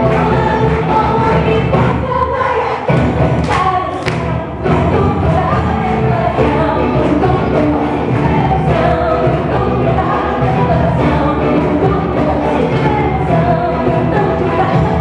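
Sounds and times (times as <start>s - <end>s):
choir singing over heavy beat: 0.0s - 15.0s.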